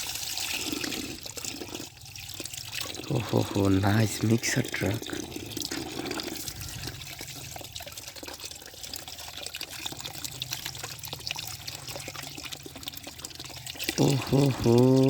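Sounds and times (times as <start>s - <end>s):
water splashing over toy vehicles: 0.0s - 15.0s.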